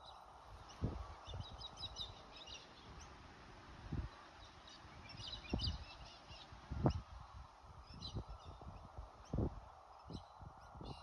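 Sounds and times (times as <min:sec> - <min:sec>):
faint outdoor background: 0:00.0 - 0:11.0
small birds chirping: 0:00.0 - 0:11.0.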